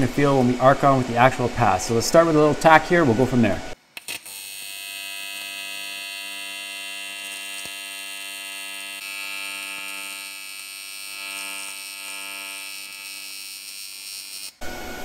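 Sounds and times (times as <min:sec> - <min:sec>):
welding arc buzzing: 0:00.0 - 0:15.0.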